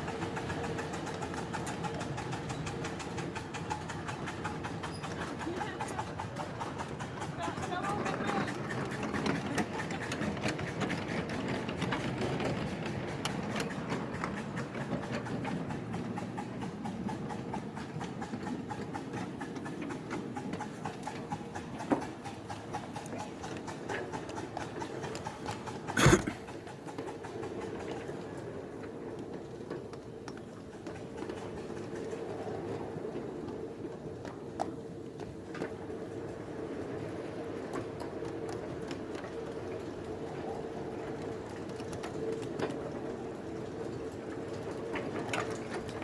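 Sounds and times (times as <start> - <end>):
train wheels clicking on rails: 0.0 - 46.0.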